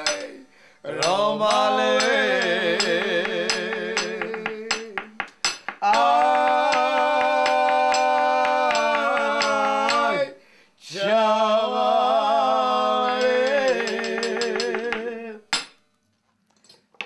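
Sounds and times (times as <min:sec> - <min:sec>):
two men singing unaccompanied: 0:00.0 - 0:15.7.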